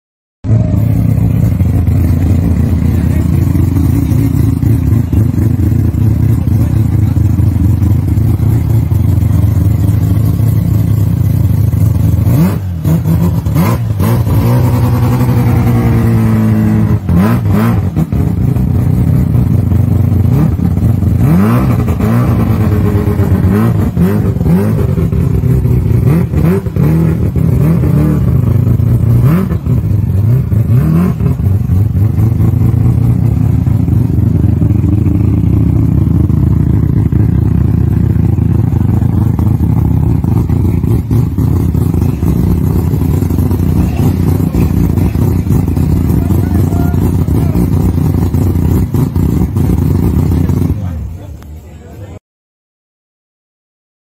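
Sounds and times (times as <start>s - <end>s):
car engine idling and revving: 0.4s - 52.2s.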